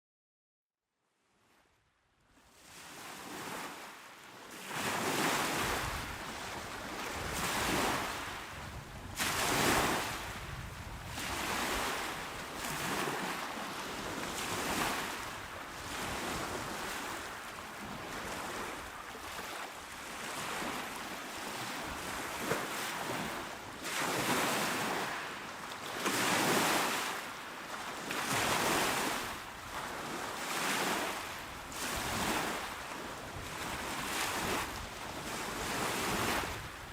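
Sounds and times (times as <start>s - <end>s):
waves breaking on shore: 2.5s - 36.9s.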